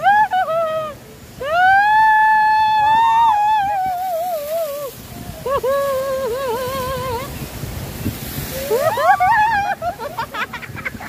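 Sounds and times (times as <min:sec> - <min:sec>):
rushing water: 0:00.0 - 0:11.0
wind noise on microphone: 0:00.0 - 0:11.0.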